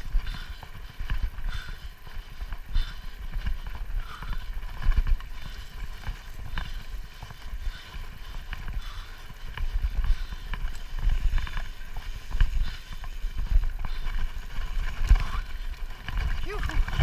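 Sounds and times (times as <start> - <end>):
bike clicks and rattles: 0.0 - 17.0
bike rumbling over dirt track: 0.0 - 17.0.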